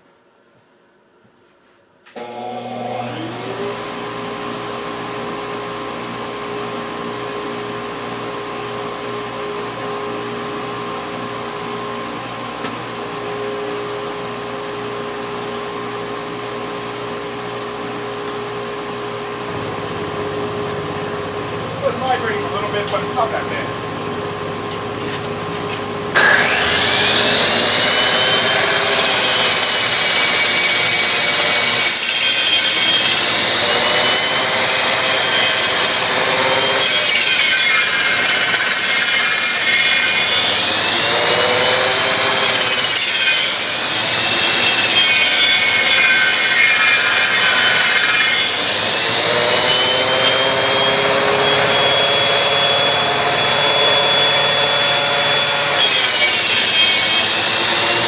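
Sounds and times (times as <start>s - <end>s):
angle grinder whining: 2.2s - 7.8s, 17.0s - 58.0s.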